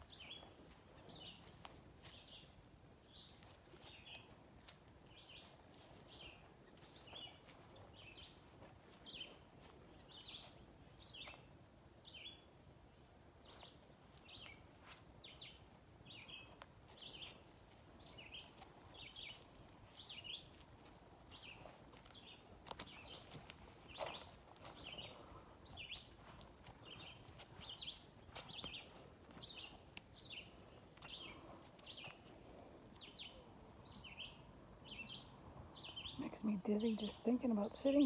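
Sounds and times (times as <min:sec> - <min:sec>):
songbird chirping: 0:00.0 - 0:38.0.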